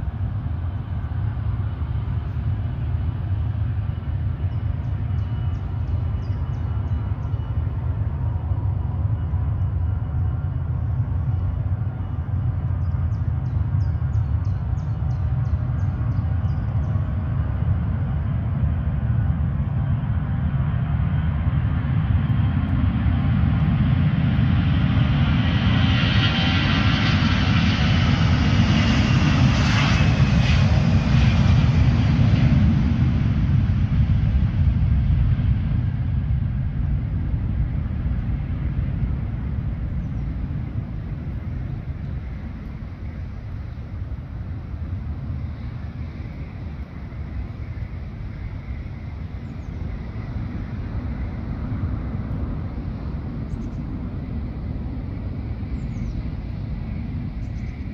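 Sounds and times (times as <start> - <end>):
distant jet engines rumbling: 0.0 - 57.9.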